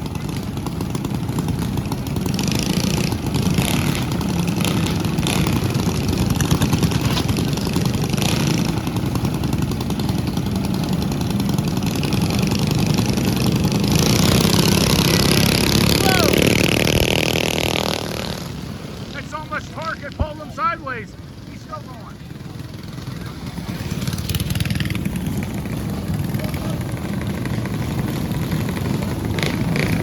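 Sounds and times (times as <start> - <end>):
mini bike engines idling: 0.0 - 30.0.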